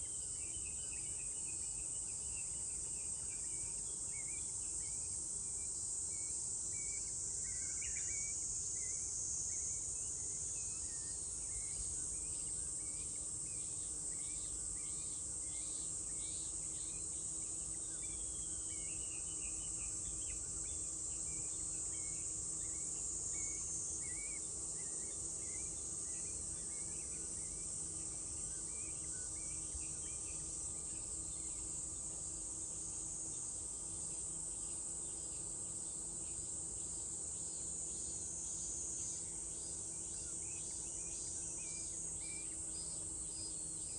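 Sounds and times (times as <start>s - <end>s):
cicadas droning: 0.0s - 43.9s.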